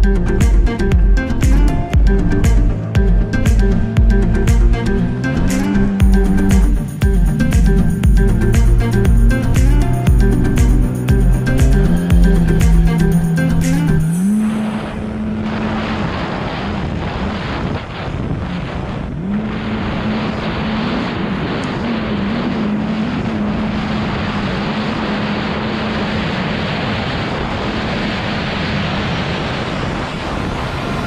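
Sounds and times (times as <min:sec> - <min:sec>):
jet ski engine running: 0:00.0 - 0:31.0
wind buffeting microphone: 0:00.0 - 0:31.0.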